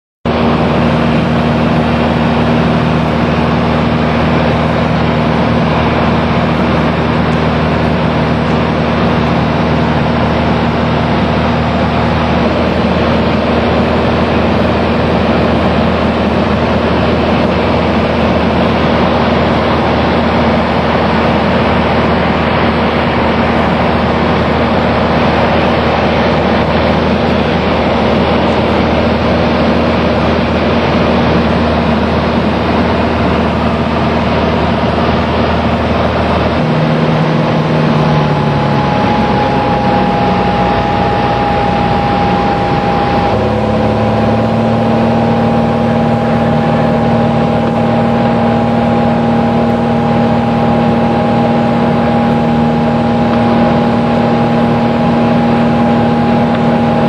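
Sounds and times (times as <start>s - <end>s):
aircraft engine drone in cabin: 0.3s - 57.0s.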